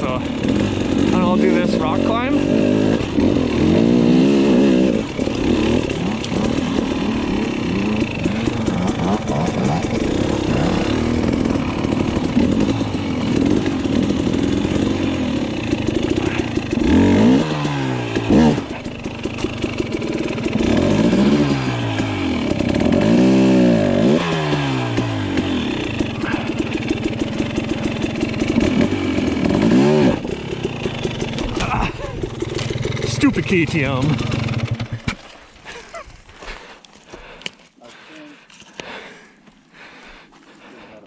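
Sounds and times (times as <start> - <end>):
dirt bike engine revving: 0.0 - 36.8.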